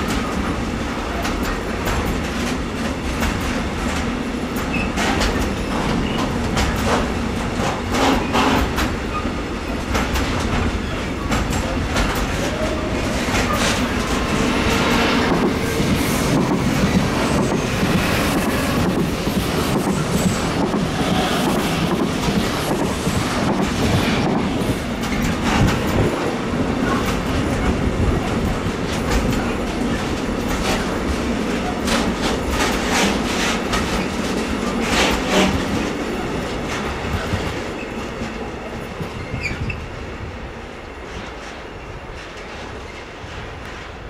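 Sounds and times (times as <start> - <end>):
freight train rolling past: 0.0 - 44.0.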